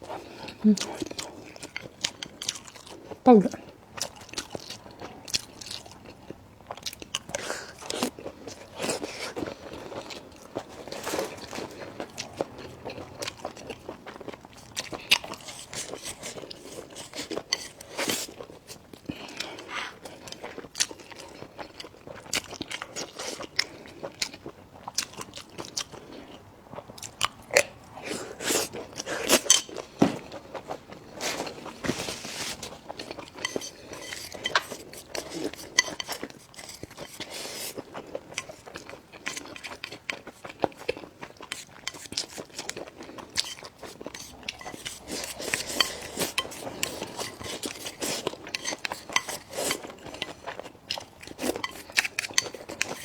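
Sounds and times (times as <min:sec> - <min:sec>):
chewing and crunching food: 0:00.0 - 0:53.0.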